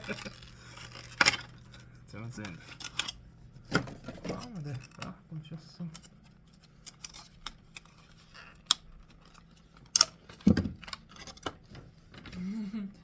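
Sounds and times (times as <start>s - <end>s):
small items and packaging rustling: 0.0s - 12.7s.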